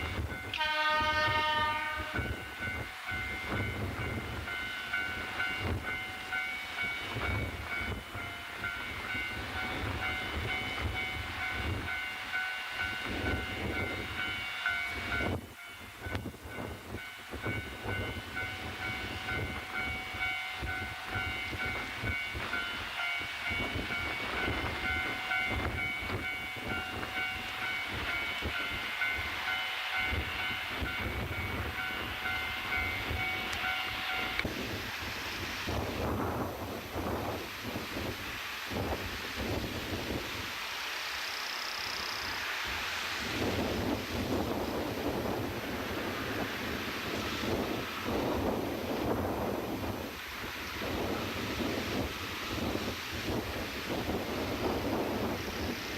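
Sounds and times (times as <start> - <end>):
wind buffeting microphone: 0.0 - 40.5, 42.8 - 55.9
diesel train: 0.0 - 55.9.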